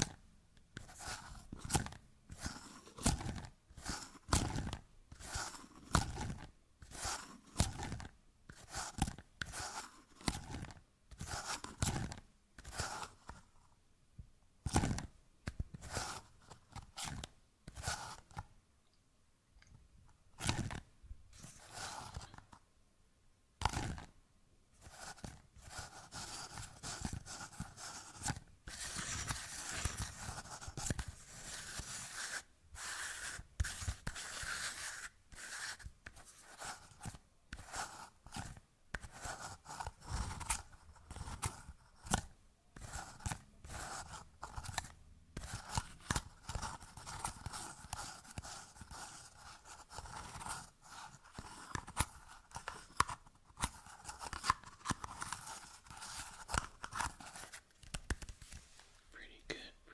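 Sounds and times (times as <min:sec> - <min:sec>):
scratchy rubbing: 0:00.8 - 0:13.5, 0:14.6 - 0:18.5, 0:20.4 - 0:22.6, 0:24.8 - 0:59.6.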